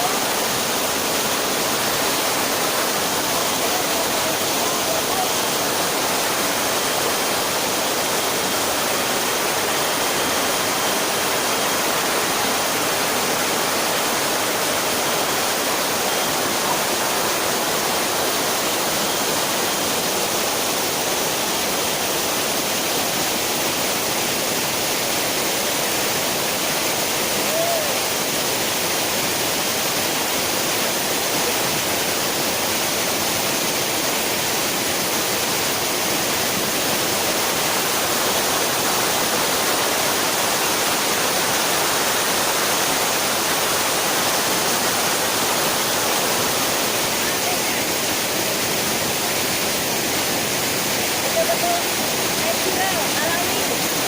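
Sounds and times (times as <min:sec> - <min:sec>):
waterfall rushing and splashing: 0:00.0 - 0:54.0.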